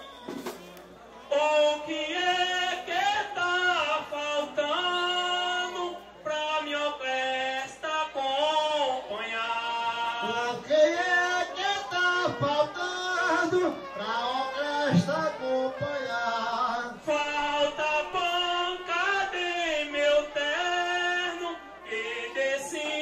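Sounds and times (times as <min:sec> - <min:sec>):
man singing into a microphone: 0:01.2 - 0:23.0.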